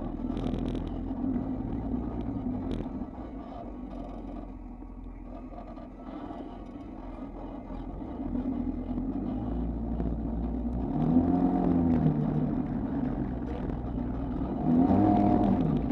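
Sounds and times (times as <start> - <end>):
off-road vehicle engine revving: 0.0 - 15.9.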